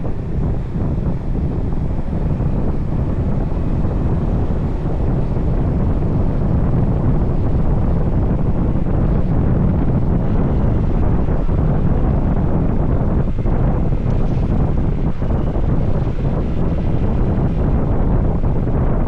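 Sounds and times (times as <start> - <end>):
road noise: 0.0 - 19.0
wind rushing over microphone: 0.0 - 19.0.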